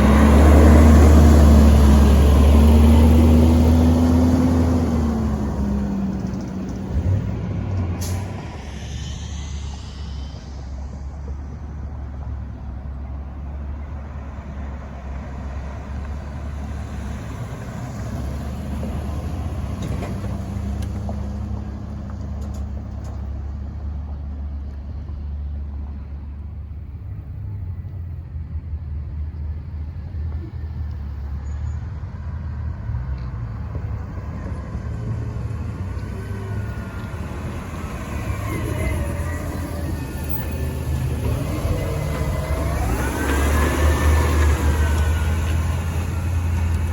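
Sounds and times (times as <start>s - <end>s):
garbage truck engine rumbling: 0.0s - 31.4s, 32.1s - 46.9s.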